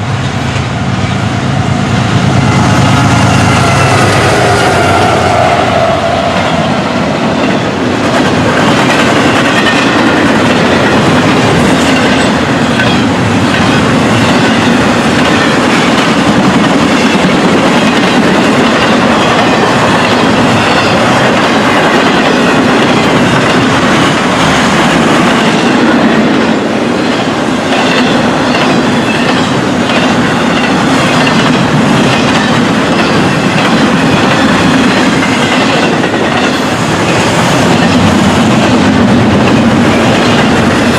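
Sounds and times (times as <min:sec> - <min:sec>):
freight train wheels clattering: 0:00.0 - 0:40.9.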